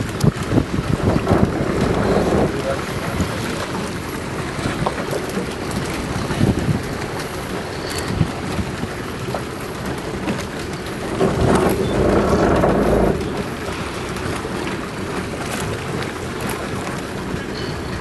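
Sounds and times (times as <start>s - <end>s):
sea water rushing around boat: 0.0s - 18.0s
wind buffeting the microphone: 0.0s - 18.0s.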